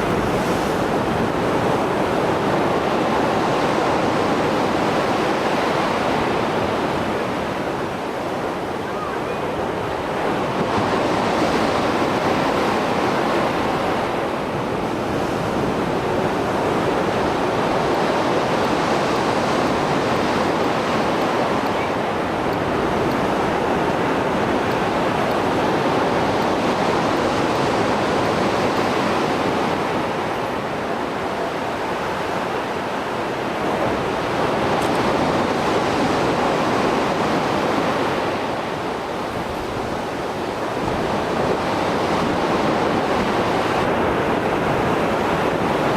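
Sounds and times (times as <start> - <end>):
surf washing onto shore: 0.0 - 45.9.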